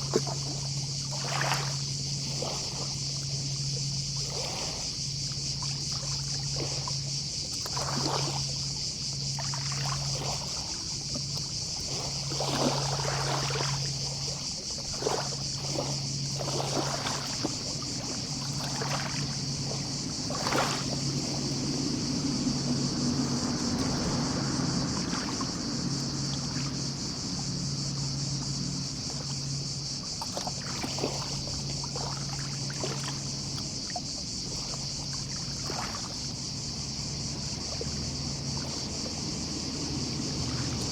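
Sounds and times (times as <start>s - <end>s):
distant cicadas: 0.0s - 40.9s
low hum: 0.0s - 40.9s
sea waves lapping on shore: 0.0s - 40.9s.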